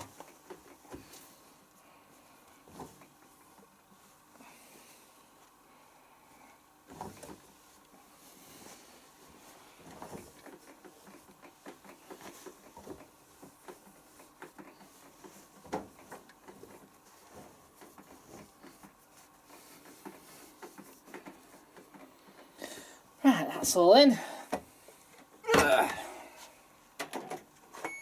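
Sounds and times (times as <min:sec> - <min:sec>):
fabric rustling: 0:00.0 - 0:23.2.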